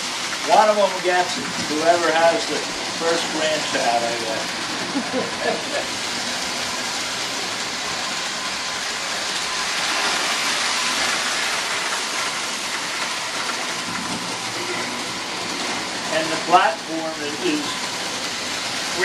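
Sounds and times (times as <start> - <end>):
model train whirring: 0.0 - 19.0.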